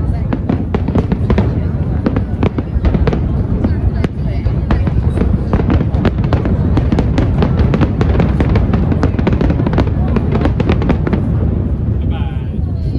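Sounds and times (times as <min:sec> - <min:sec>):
fireworks bangs and crackles: 0:00.0 - 0:12.9
low rumble: 0:00.0 - 0:12.9.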